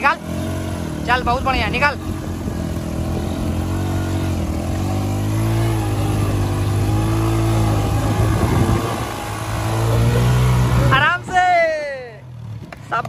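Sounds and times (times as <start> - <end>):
motorcycle engine revving hard: 0.0 - 13.0.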